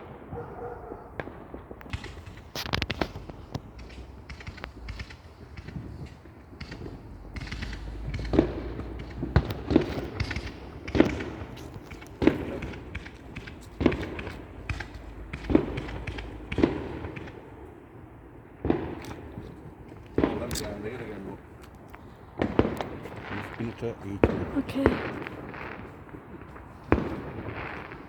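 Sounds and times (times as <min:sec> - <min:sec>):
distant fireworks bangs: 0:00.0 - 0:28.0.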